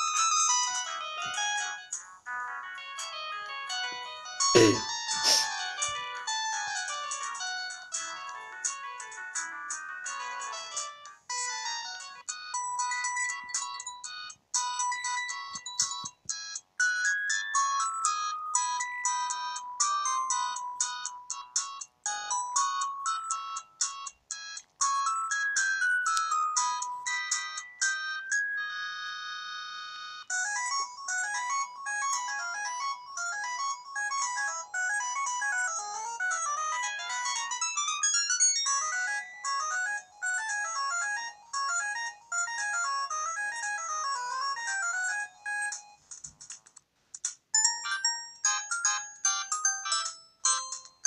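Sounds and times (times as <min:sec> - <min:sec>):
mobile phone ringtone: 0:00.0 - 0:46.0, 0:47.6 - 0:51.0.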